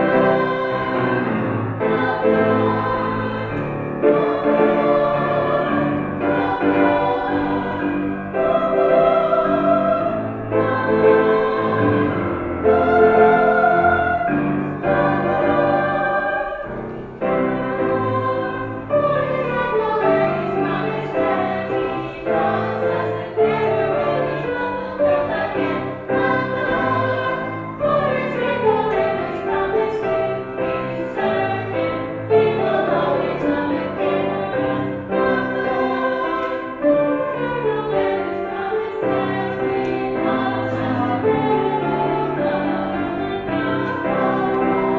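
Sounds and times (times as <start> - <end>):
children's choir singing: 0.0 - 44.9.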